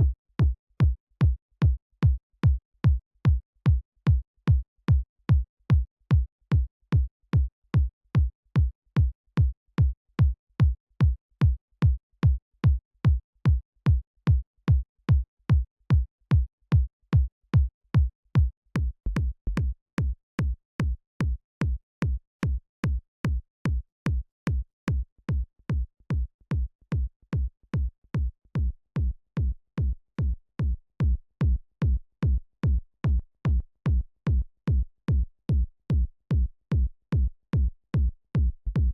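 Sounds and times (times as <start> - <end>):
electronic kick drum: 0.0 - 38.9.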